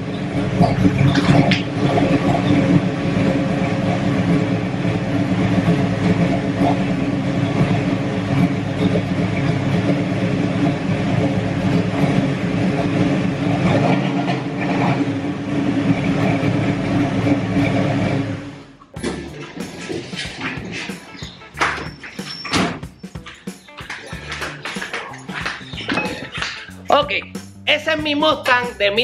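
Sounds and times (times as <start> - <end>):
lumpy engine idling: 0.0 - 29.0.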